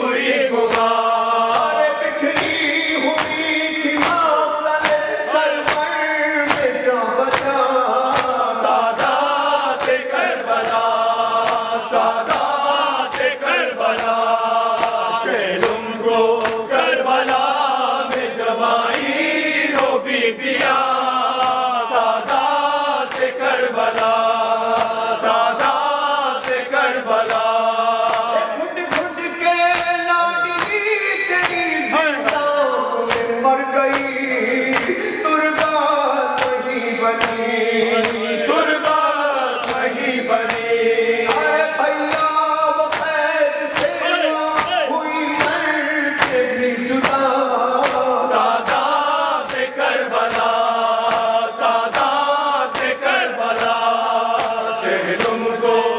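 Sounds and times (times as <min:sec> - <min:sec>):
chorus of mourners chanting: 0:00.0 - 0:55.9
man chanting a lament: 0:00.0 - 0:55.9.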